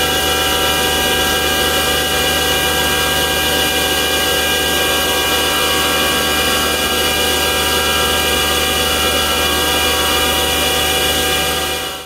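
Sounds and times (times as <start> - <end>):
milling machine cutting steel: 0.0 - 12.0.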